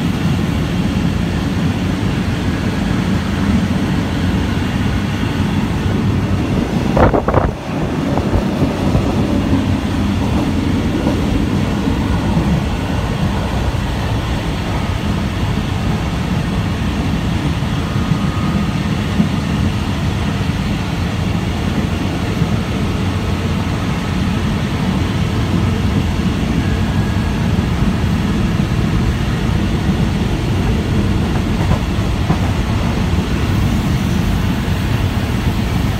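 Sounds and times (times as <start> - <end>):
train rumbling inside carriage: 0.0 - 35.9.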